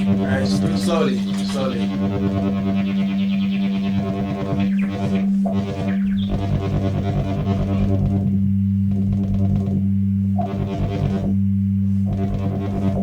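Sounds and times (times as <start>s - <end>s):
buzzy synth overtones: 0.0s - 13.0s
synthesizer low drone: 0.0s - 13.0s.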